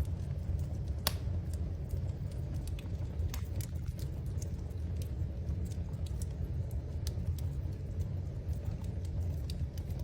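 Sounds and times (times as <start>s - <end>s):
fire crackling: 0.0s - 10.0s.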